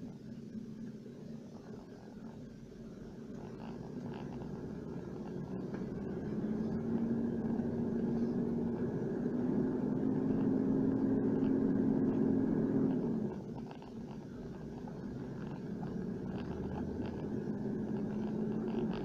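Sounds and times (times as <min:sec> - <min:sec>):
car engine from inside cab: 0:00.0 - 0:19.0.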